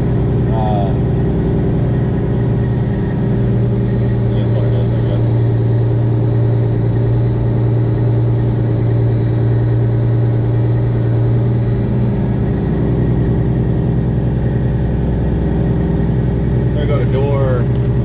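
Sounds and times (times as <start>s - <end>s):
deep low rumble: 0.0s - 18.0s
semi truck diesel engine running: 0.0s - 18.0s.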